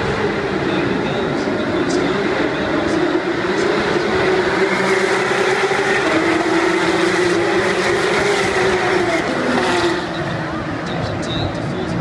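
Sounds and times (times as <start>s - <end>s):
race cars passing: 0.0s - 12.0s.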